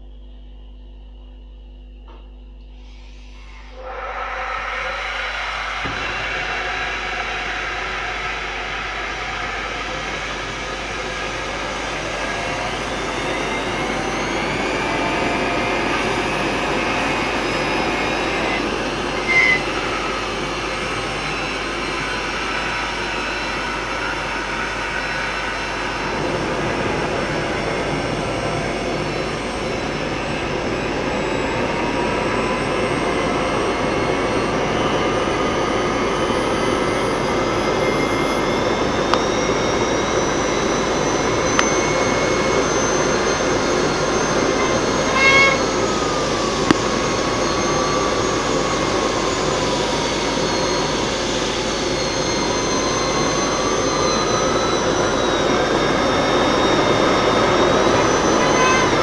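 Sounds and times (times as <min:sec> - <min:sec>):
high-speed drill whine: 0:00.0 - 0:59.0
jet engine roaring: 0:02.8 - 0:59.0.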